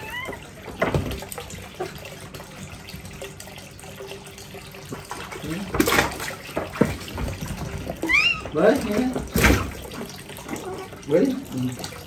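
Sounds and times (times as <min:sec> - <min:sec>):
tap water pouring into pool: 0:00.0 - 0:12.0.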